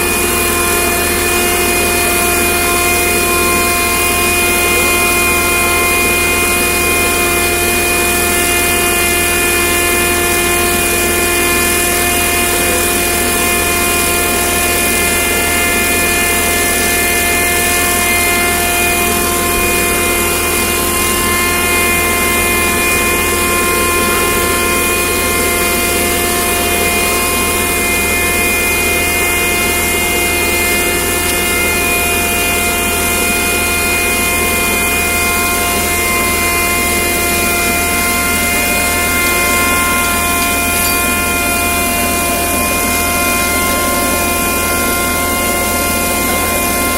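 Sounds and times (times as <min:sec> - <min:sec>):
motor humming steadily: 0:00.0 - 0:46.9.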